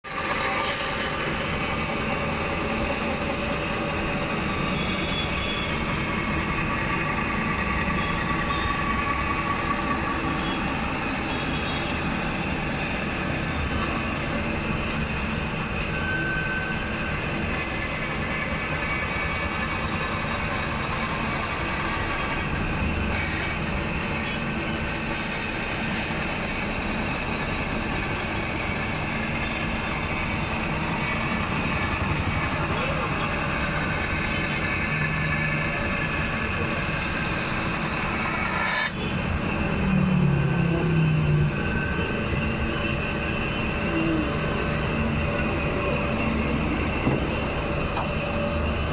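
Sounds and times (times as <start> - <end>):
machine humming steadily: 0.1 - 48.9.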